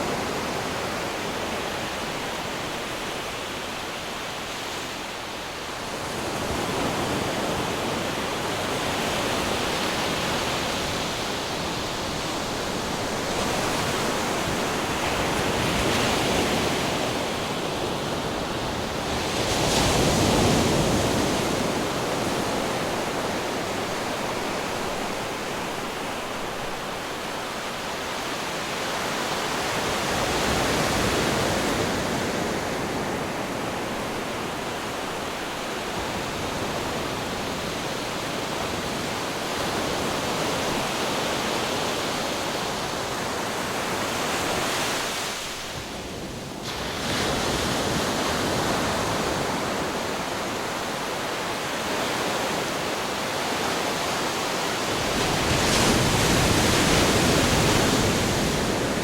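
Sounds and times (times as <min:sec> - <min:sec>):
ocean waves breaking on rocks: 0:05.9 - 0:59.0.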